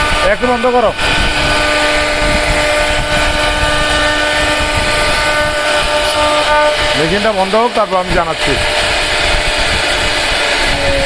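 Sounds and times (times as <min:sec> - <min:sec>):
wood router spindle whine: 0:00.0 - 0:11.0.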